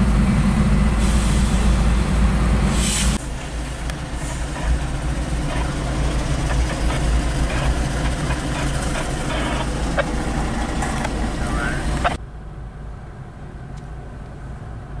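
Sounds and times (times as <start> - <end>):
diesel locomotives idling: 0.0 - 12.2.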